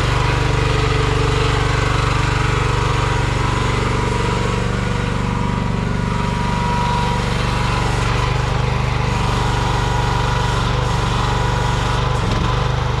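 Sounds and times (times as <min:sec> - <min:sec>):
small excavator engine running: 0:00.0 - 0:13.0.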